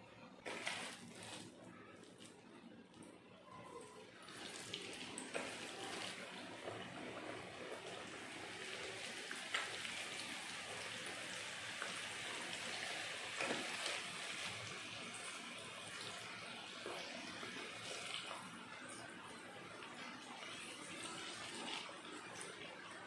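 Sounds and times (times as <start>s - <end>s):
food deep-frying in bubbling oil: 0.4s - 23.0s.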